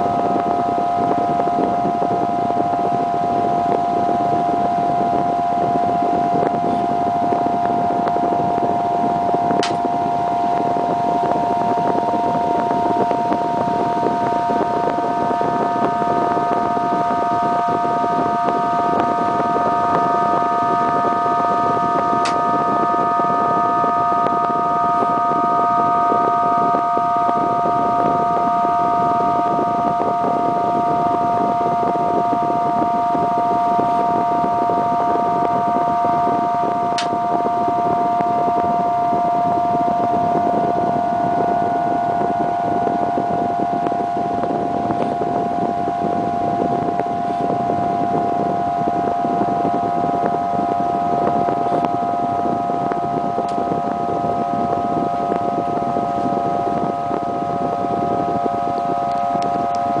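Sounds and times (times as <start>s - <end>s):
wind rushing: 0.0s - 59.0s.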